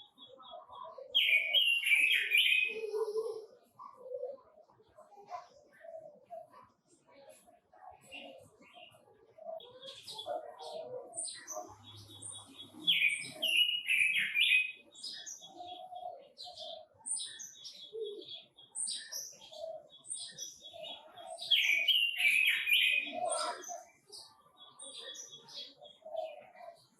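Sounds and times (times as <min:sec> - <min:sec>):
birds chirping and singing: 0:00.0 - 0:26.9.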